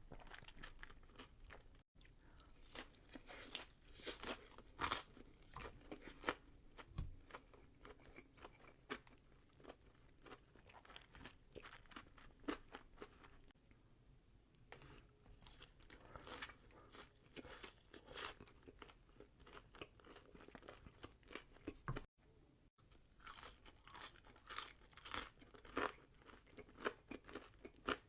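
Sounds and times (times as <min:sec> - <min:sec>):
chewing crispy fried food: 0:00.0 - 0:13.5, 0:14.8 - 0:22.1, 0:22.9 - 0:28.0.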